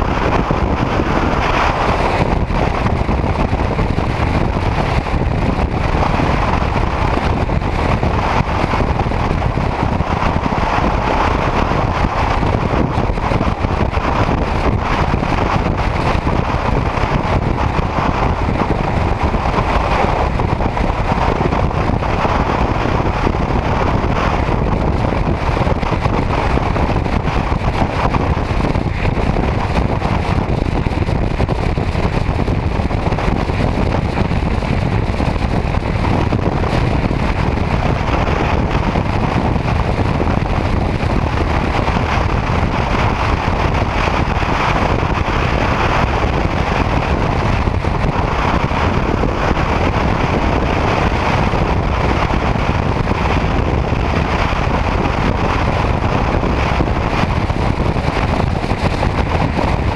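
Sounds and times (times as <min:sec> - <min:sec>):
motorcycle road noise: 0:00.0 - 0:59.9
wind buffeting microphone: 0:00.0 - 0:59.9
wind rush: 0:00.0 - 0:59.9.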